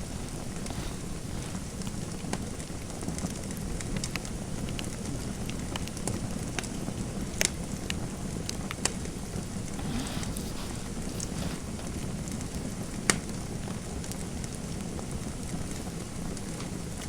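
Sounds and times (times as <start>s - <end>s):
fire popping: 0.0s - 17.0s
fireplace burning rumble: 0.0s - 17.0s.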